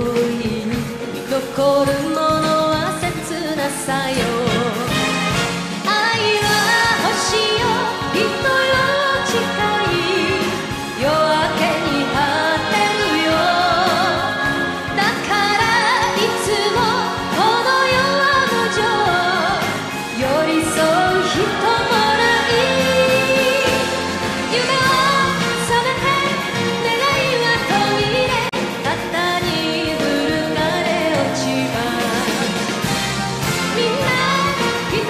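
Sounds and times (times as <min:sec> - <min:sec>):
instrumental backing: 0:00.0 - 0:35.0
woman singing with vibrato: 0:00.0 - 0:35.0.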